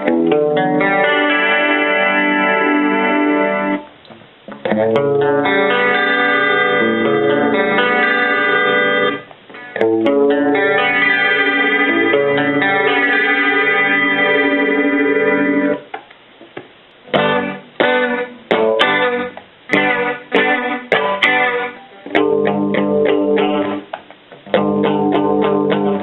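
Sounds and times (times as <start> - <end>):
clean electric guitar chords: 0.0 - 3.9, 4.5 - 15.9, 17.1 - 26.0.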